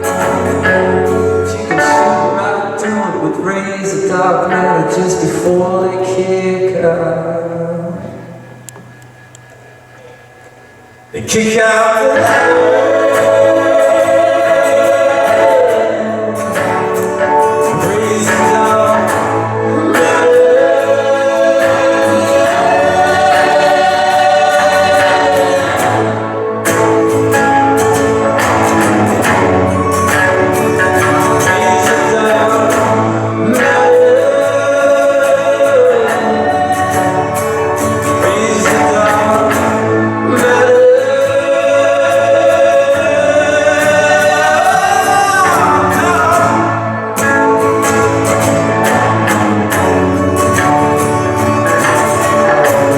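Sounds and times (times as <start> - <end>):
chords: 0.0 - 52.9
sliding lead melody: 0.0 - 52.9.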